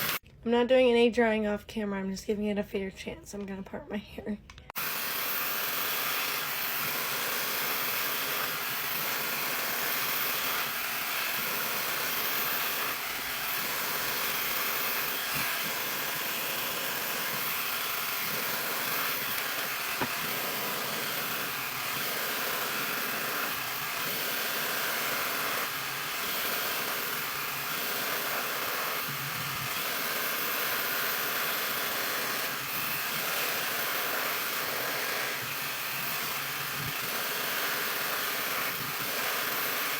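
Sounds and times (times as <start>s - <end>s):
hair dryer blowing air: 0.0s - 0.2s, 4.7s - 39.9s.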